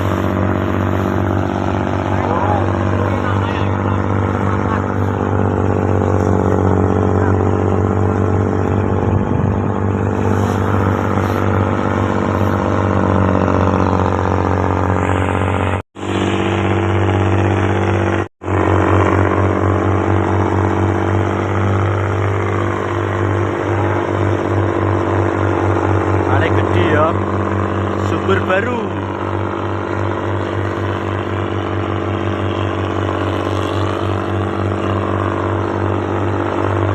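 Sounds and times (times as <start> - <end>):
boat engine running steadily: 0.0 - 36.9.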